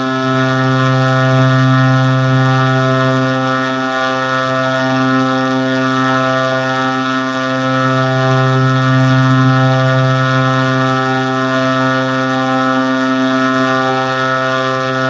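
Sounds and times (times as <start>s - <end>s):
loud low droning tone: 0.0s - 15.0s.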